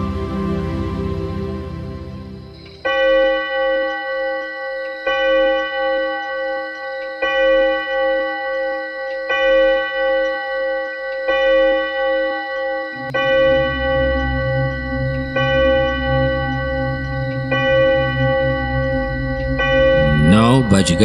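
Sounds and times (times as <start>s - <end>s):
clock striking gong: 0.0s - 21.0s.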